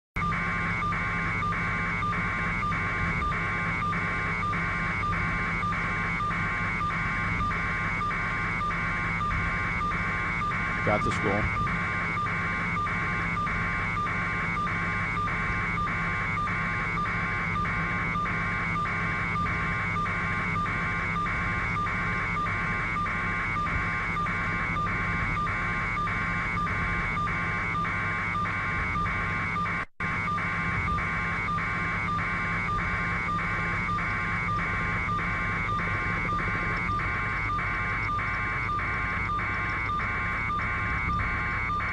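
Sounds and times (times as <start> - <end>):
helicopter cabin hum over radio: 0.2 - 41.9
pulsing buzz: 0.2 - 41.9.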